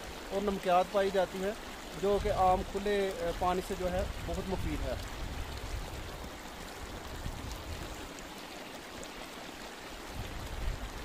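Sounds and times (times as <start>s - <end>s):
stream running over stones: 0.0s - 11.0s.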